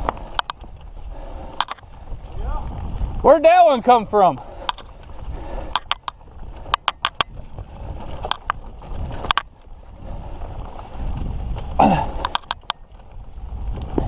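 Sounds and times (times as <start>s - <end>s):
bike clicking and clanking: 0.0s - 14.0s.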